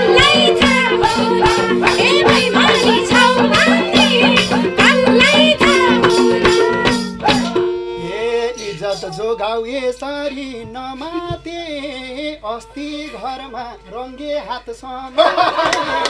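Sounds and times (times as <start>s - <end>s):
man singing unaccompanied: 0.0s - 15.6s
people singing: 0.0s - 15.8s
folk ensemble with drums and harmonium: 0.0s - 16.0s.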